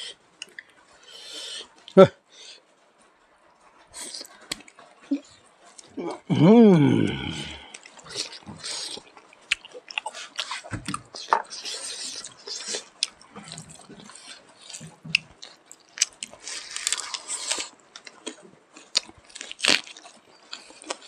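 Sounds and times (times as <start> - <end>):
people chewing and smacking: 0.0 - 21.0.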